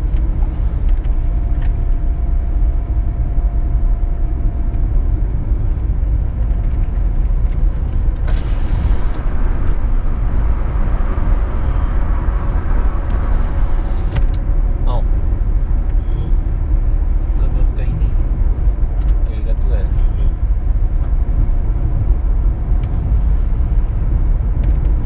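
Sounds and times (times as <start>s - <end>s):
car driving interior rumble: 0.0s - 25.0s.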